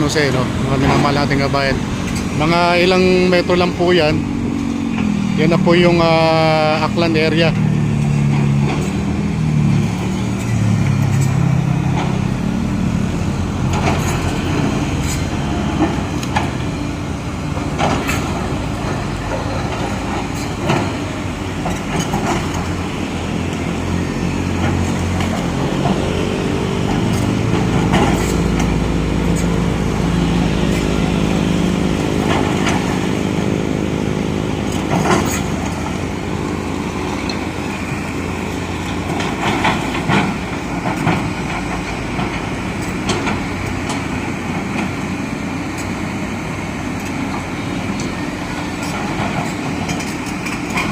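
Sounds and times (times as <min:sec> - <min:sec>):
heavy diesel engines running: 0:00.0 - 0:50.9
steady engine drone: 0:00.0 - 0:50.9
sharp knocks and clatter: 0:06.0 - 0:45.1, 0:48.8 - 0:50.9.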